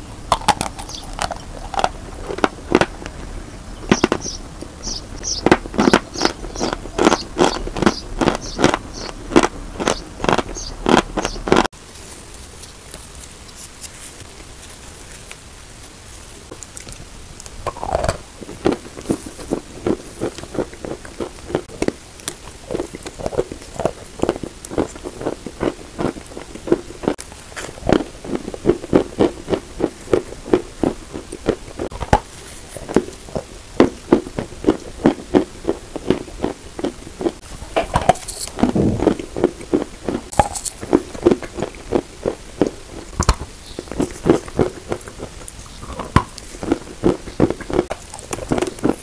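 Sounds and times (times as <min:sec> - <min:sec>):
chalk crunching while chewed: 0:00.1 - 0:03.2, 0:03.9 - 0:11.7, 0:12.4 - 0:49.0.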